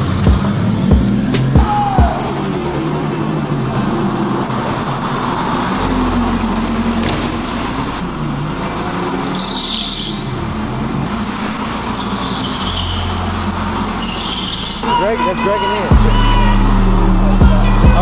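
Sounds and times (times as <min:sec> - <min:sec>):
go-karts racing: 0:00.0 - 0:18.0.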